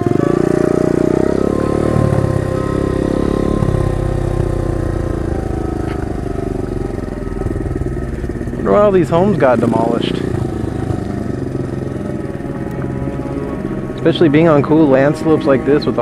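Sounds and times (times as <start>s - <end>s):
pit bike engine running: 0.0s - 16.0s.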